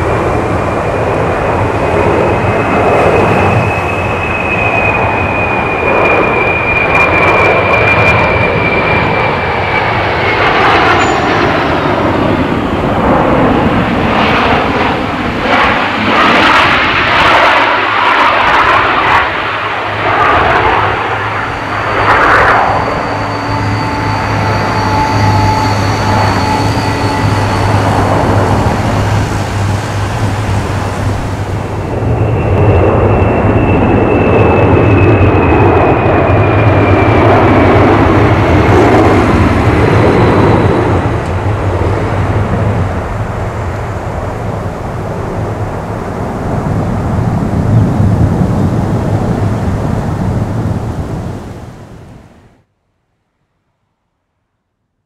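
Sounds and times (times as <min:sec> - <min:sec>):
high engine whine: 0:00.0 - 0:52.6
jet engines rushing: 0:00.0 - 0:52.6.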